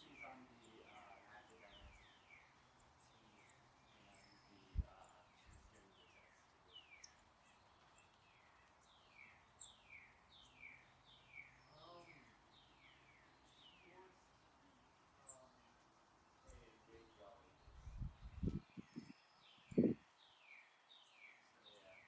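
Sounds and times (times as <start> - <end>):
birds singing faintly: 0.0 - 22.0.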